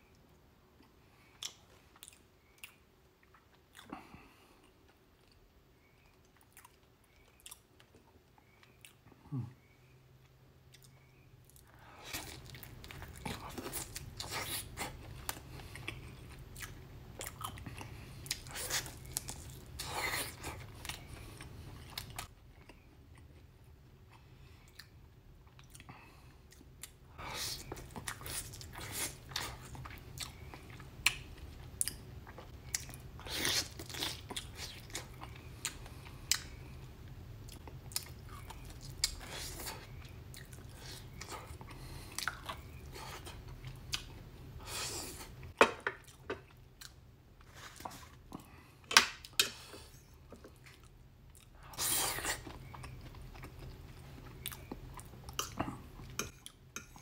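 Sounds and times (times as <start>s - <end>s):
man chewing with wet smacks: 0.8s - 57.0s.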